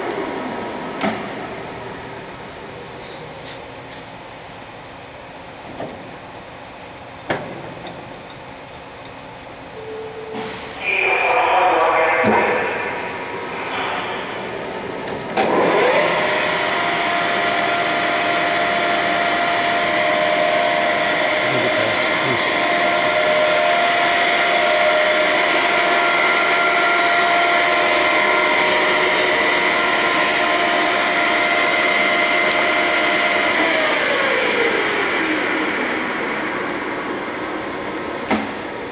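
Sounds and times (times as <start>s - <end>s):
lathe spinning up and whining: 0.0s - 2.9s, 9.3s - 38.9s.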